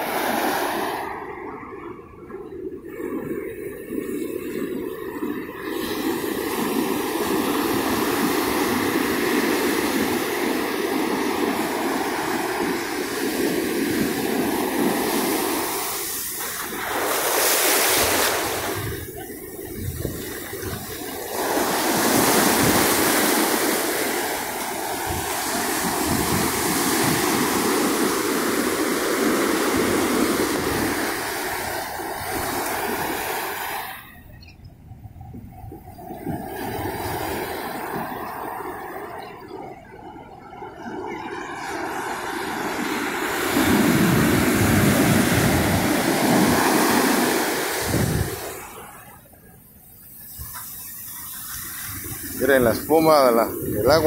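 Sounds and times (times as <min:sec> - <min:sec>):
waves breaking on beach: 0:00.0 - 0:34.5, 0:35.2 - 0:54.0.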